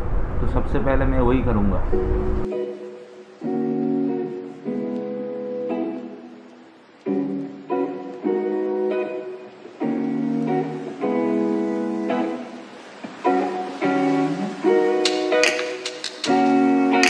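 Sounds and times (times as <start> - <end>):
guitar chords strummed: 2.0 - 17.0.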